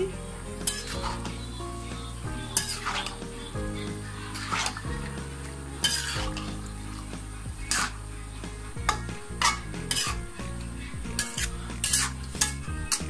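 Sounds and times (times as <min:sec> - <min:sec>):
greens sizzling: 0:00.0 - 0:13.0
spatula scraping frying pan: 0:00.5 - 0:13.0.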